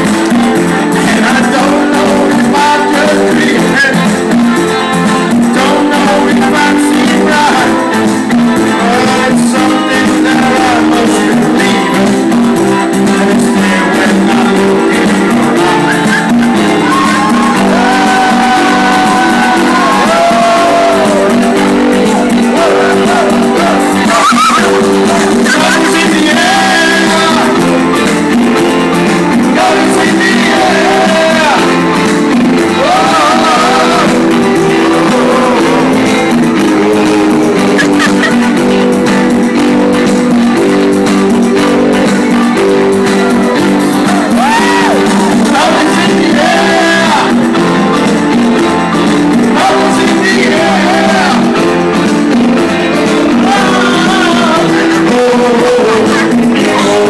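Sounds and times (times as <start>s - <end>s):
live rock band playing: 0.0s - 57.0s
man singing into microphone: 0.0s - 57.0s.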